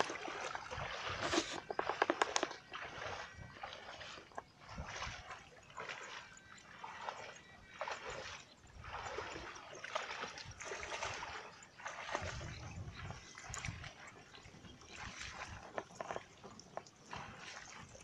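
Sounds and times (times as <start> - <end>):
wading through shallow water: 0.0 - 18.0.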